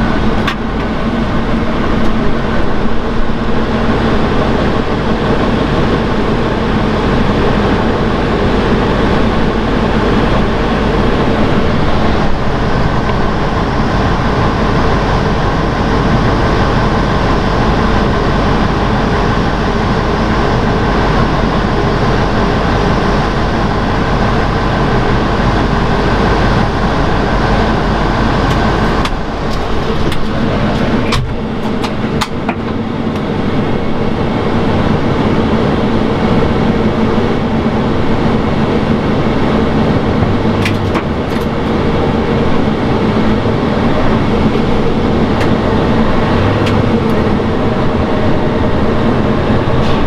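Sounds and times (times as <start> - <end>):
jet engines running: 0.0 - 50.0
tug engine idling: 0.0 - 50.0.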